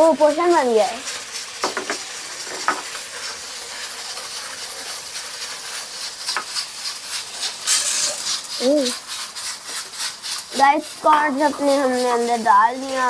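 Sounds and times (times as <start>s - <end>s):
butter sizzling in a frying pan: 0.0s - 13.0s.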